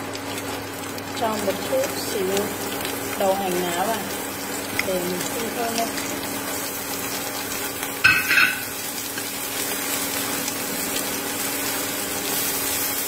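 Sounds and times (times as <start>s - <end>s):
oil sizzling in a frying pan: 0.0s - 13.0s.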